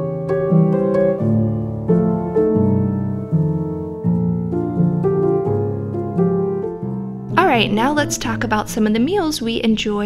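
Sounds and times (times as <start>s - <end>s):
background piano music: 0.0s - 10.0s.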